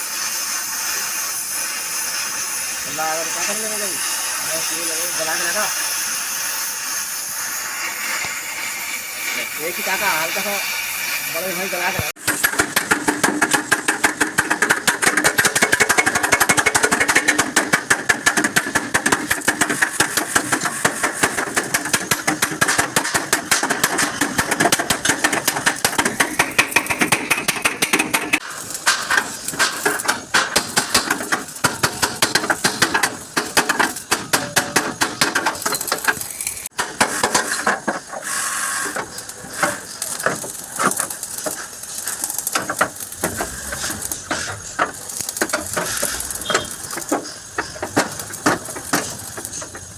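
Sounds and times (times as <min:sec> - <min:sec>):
welding crackle on sheet metal: 0:00.0 - 0:49.9.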